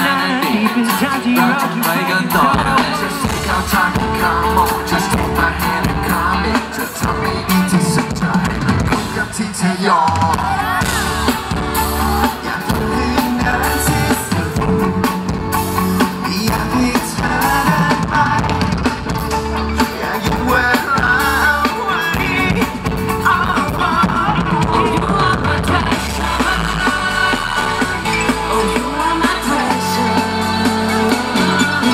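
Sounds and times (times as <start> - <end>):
band with drum kit: 0.0 - 31.9
man singing live pop song: 0.0 - 31.9.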